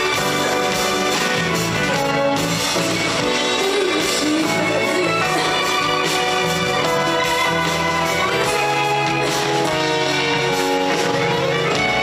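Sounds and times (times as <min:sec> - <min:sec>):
band with guitar and drums: 0:00.0 - 0:12.0.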